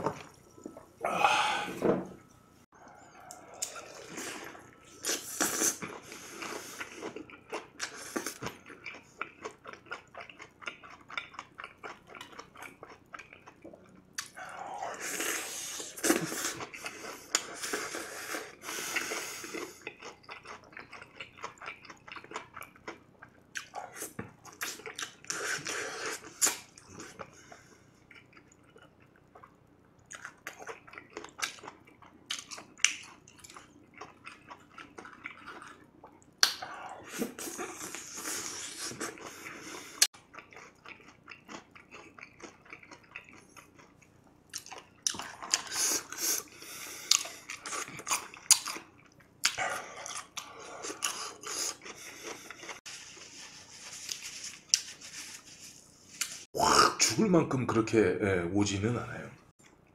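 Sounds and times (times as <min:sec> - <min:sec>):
crunchy chewing of fried chicken: 0:02.9 - 0:56.4.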